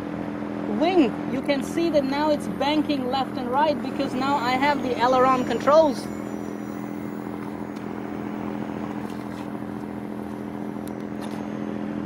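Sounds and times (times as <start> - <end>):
steady motor drone: 0.0 - 12.0.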